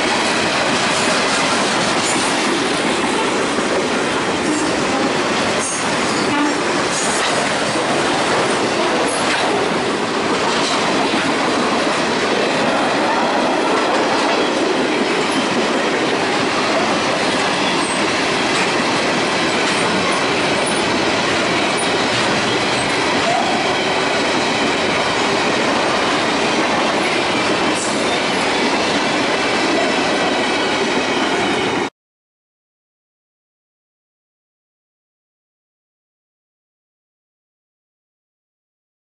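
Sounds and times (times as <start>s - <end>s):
freight train wheels on rail: 0.0s - 31.9s.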